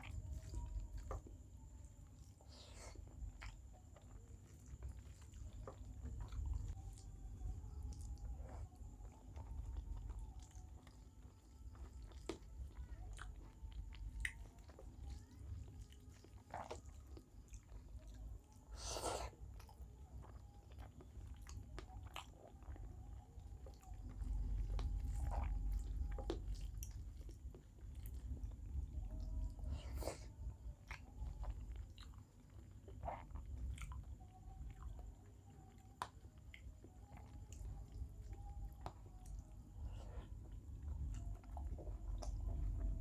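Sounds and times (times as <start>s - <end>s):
person chewing food: 0.0s - 43.0s.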